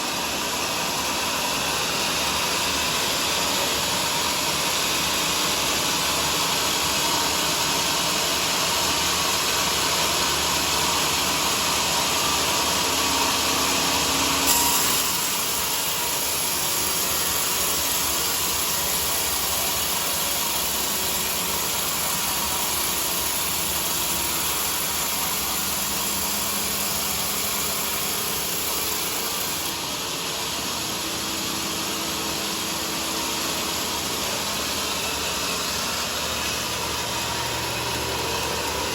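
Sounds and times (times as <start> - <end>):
bandsaw sawmill running: 0.0 - 38.9.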